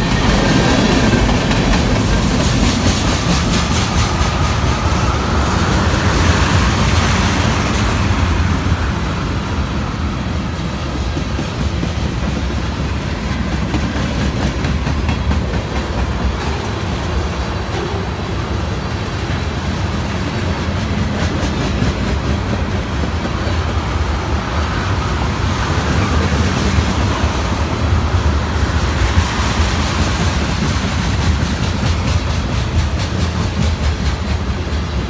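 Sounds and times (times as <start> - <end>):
steel train wheels rumbling on rails: 0.0 - 35.0.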